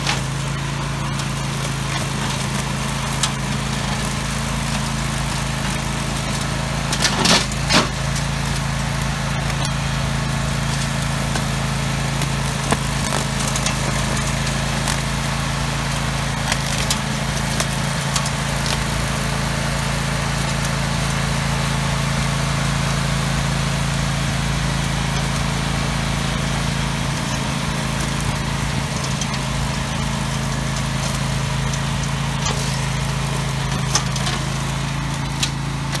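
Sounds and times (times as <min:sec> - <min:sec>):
mower engine humming: 0:00.0 - 0:36.0.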